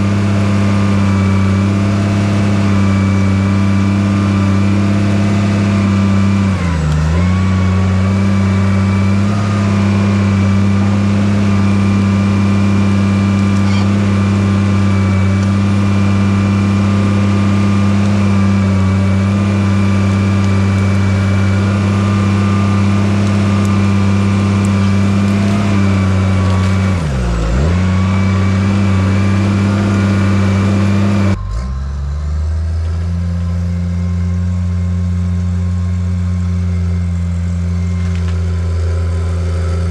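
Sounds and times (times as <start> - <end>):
heavy diesel engine at high revs: 0.0 - 39.9.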